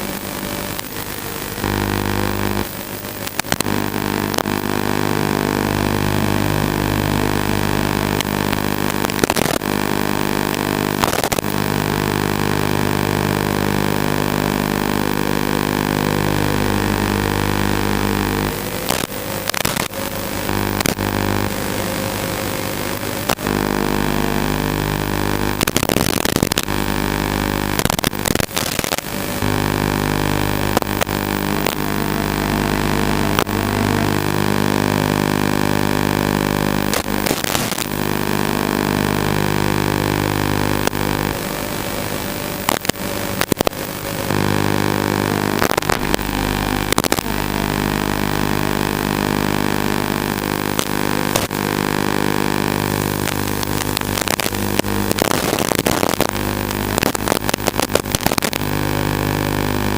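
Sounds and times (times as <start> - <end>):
quadcopter motors buzzing hum: 0.0 - 59.9
radio crackles: 0.0 - 59.9.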